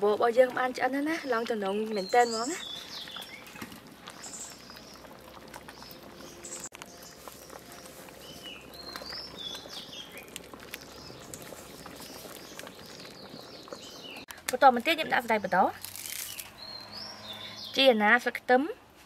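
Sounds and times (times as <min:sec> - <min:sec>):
small birds chirping: 0:01.2 - 0:18.1.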